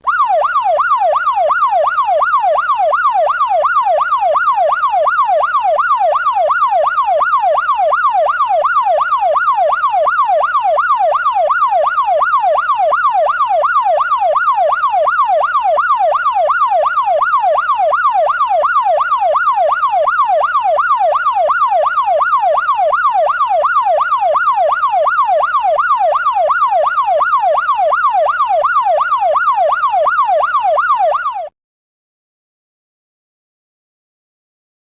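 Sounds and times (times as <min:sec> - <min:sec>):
police siren yelping: 0:00.0 - 0:31.5.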